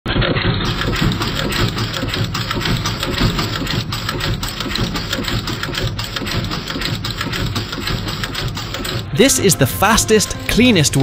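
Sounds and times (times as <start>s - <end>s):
machine clicking and clattering: 0.1s - 9.2s
low mechanical hum: 0.1s - 11.0s.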